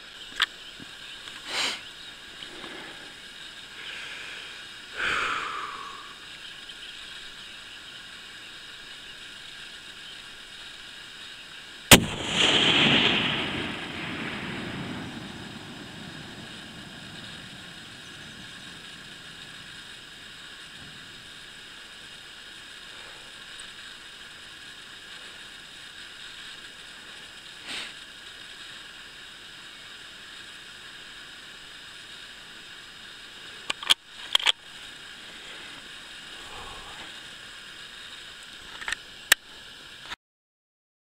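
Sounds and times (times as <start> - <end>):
steady hiss: 0.0 - 40.2.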